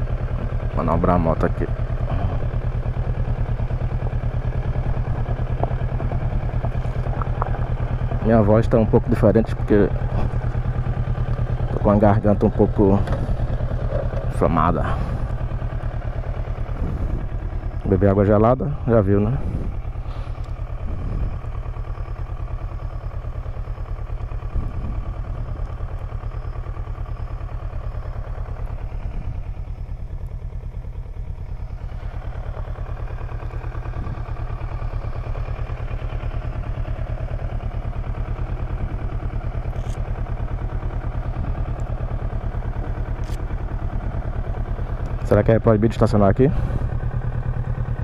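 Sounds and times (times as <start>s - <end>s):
motorcycle engine idling: 0.0s - 48.0s.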